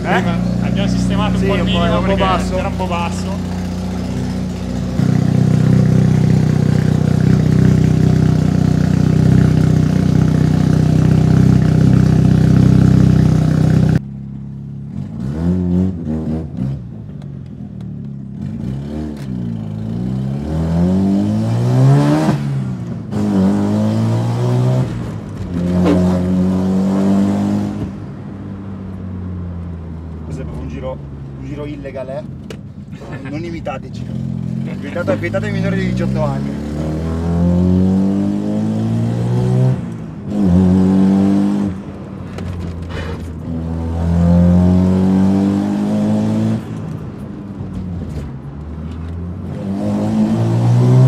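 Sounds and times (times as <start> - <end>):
car engine accelerating: 0.0 - 14.0, 18.1 - 32.2, 33.4 - 51.0.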